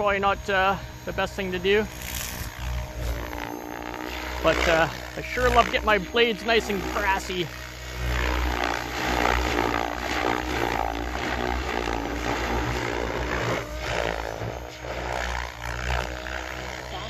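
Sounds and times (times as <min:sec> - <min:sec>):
helicopter rotor and motor: 0:00.0 - 0:17.0
rotor blades chopping grass: 0:01.8 - 0:17.0.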